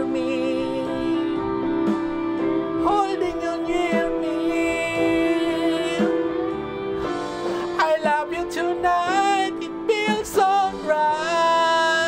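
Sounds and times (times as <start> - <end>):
man singing: 0.0 - 1.8, 2.8 - 6.4, 7.6 - 12.0
soft-rock ballad backing track: 0.0 - 12.0.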